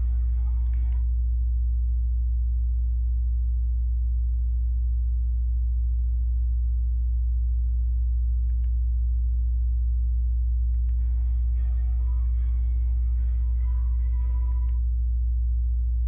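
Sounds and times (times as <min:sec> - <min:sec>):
low-pitched hum: 0:00.0 - 0:16.0.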